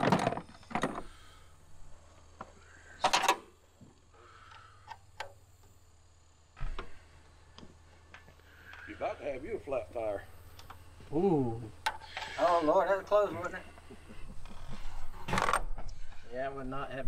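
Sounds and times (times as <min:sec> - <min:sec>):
low steady hum: 0:00.1 - 0:17.0.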